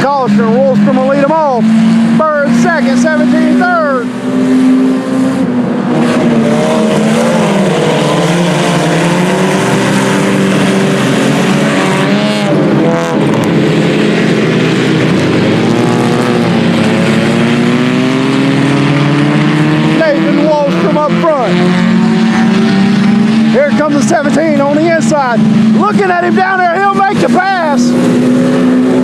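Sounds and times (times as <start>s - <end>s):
race car engines running hard: 0.0s - 29.0s
race car passing close: 0.0s - 29.0s.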